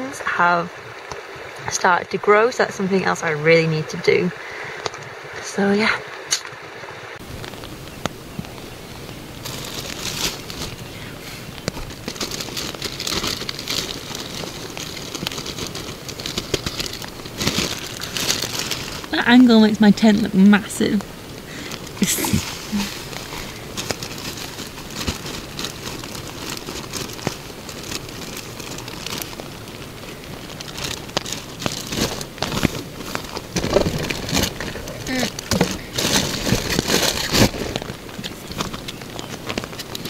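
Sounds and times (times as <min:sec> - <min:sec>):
rain pattering on tent: 0:00.0 - 0:40.0
plastic bag crinkling: 0:07.2 - 0:40.0
plastic bottle crackling: 0:07.2 - 0:40.0.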